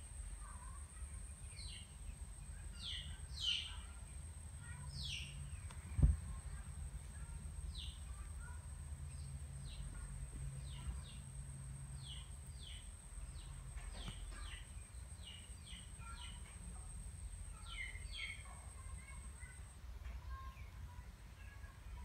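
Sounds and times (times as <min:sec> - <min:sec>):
low steady hum: 0:00.0 - 0:22.0
small bird chirping: 0:00.1 - 0:19.6.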